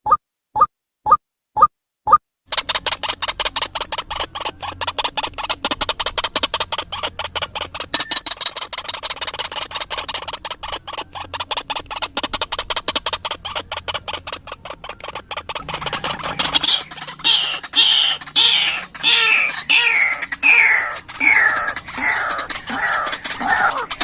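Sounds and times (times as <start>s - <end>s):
waterhen calls: 2.5s - 24.0s.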